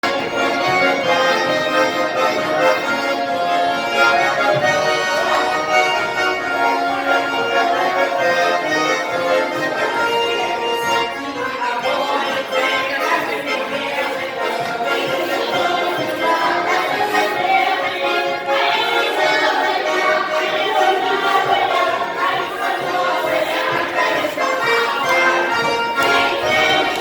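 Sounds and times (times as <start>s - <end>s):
button accordion playing folk dance: 0.0s - 27.0s.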